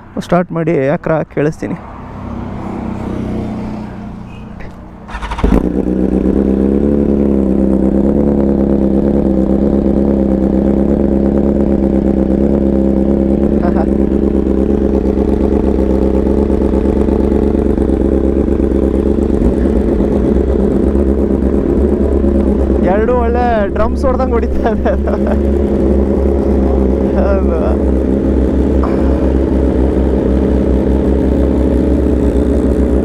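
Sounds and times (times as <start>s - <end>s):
motorcycle engine starting and idling: 4.7s - 33.0s.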